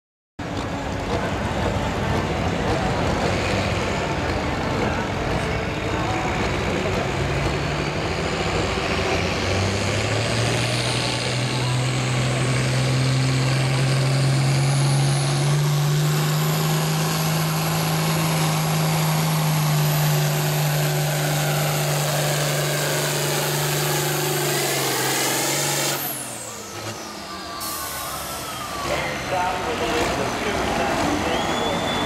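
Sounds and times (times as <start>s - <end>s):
tractor diesel engine under load: 0.4s - 32.0s.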